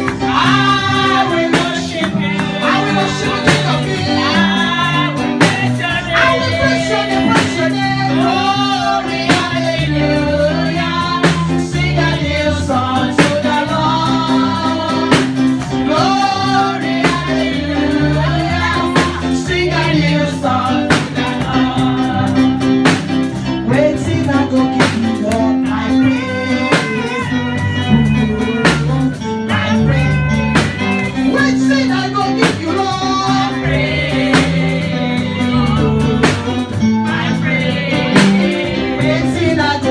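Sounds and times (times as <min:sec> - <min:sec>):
song with singing and band: 0:00.0 - 0:39.9.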